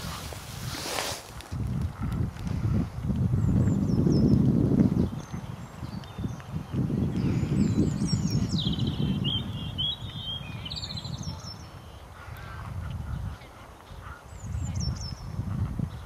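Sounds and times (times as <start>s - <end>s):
songbird singing: 3.1s - 16.0s.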